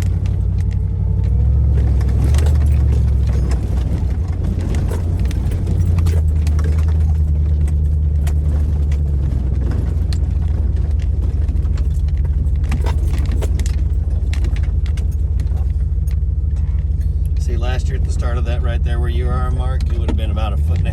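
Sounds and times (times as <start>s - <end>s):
knocks and rattles: 0.0s - 18.4s
vehicle engine droning: 0.0s - 20.9s.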